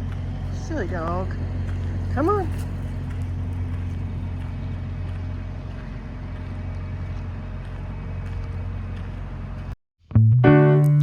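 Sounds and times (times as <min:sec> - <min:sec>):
diesel truck engine idling: 0:00.0 - 0:09.8.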